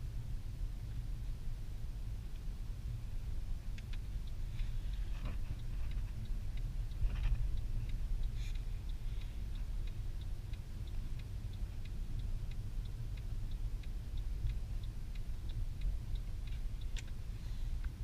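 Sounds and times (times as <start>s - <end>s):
car engine and tyres rumbling: 0.0s - 18.0s
turn signal ticking: 0.0s - 18.0s.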